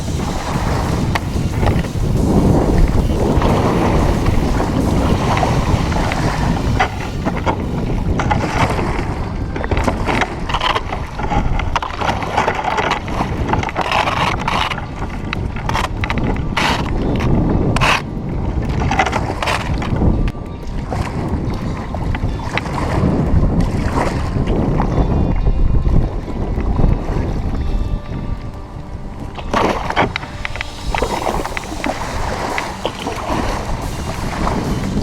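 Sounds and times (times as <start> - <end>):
paddle splashes: 0.0 - 24.6, 29.2 - 35.0
wind buffeting microphone: 0.0 - 35.0.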